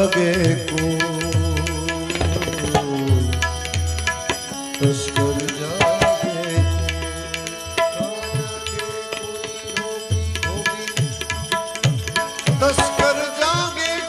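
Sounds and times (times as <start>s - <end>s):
tabla playing: 0.0s - 14.0s.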